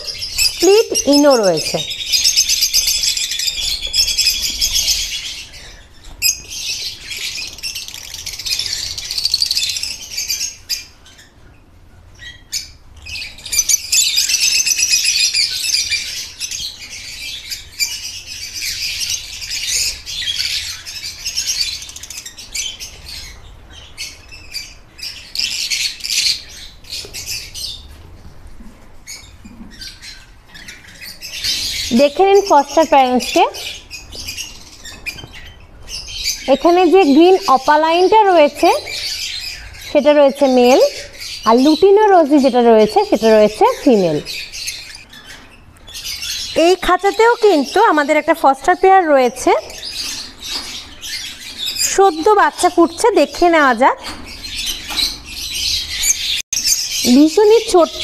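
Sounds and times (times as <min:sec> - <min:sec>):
lovebirds chattering and squawking: 0:00.0 - 0:58.0.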